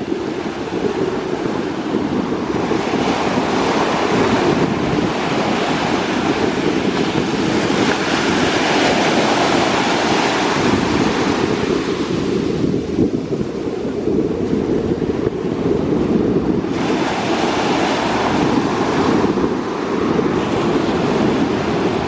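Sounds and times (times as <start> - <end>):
surf breaking on beach: 0.0 - 22.0
wind rumbling on microphone: 0.0 - 22.0.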